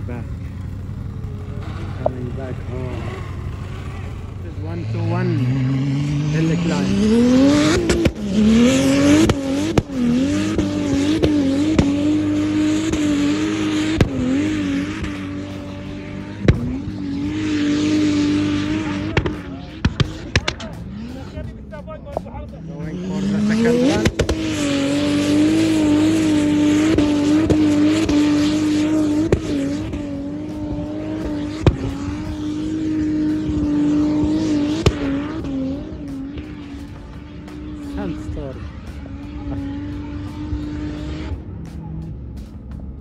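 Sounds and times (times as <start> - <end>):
vehicle engine at high revs: 0.0 - 43.0.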